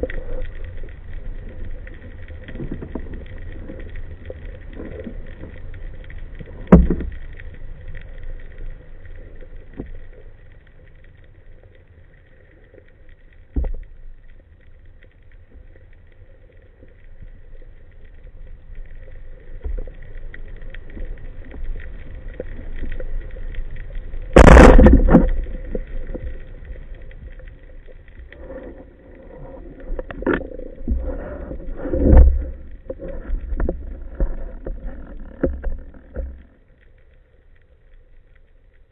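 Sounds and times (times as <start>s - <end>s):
underwater rumble: 0.0s - 38.9s.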